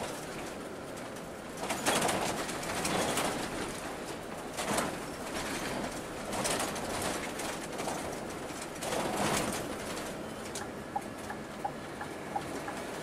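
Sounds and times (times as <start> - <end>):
coach road and engine noise: 0.0 - 13.0.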